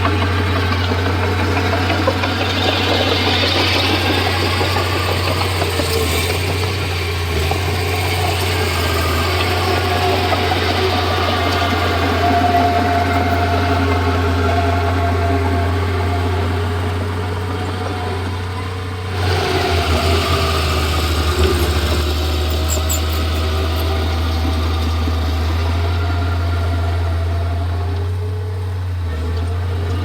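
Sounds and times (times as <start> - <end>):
bulldozer diesel engine humming: 0.0 - 30.0
engine clatter with ticks: 0.0 - 30.0.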